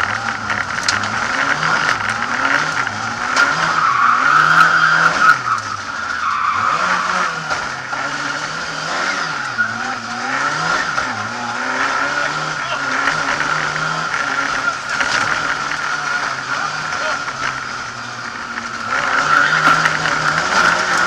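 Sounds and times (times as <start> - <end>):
car engine revving: 0.0 - 21.0
tyres squealing: 0.1 - 21.0.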